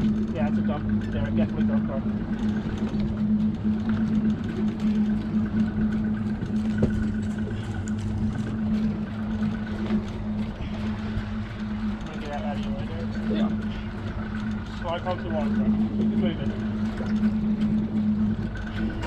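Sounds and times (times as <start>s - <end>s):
outboard engine idling: 0.0s - 19.0s.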